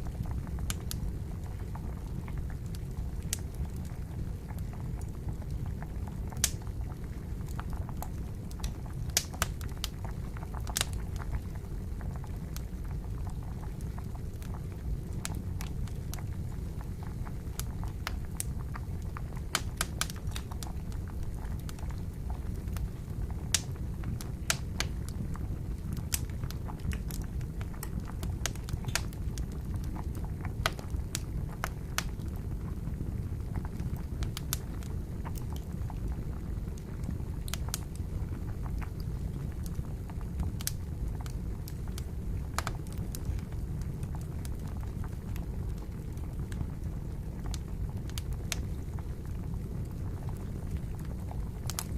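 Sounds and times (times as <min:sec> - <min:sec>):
water bubbling at the boil: 0:00.0 - 0:51.9
wood fire crackling and popping: 0:00.0 - 0:51.9.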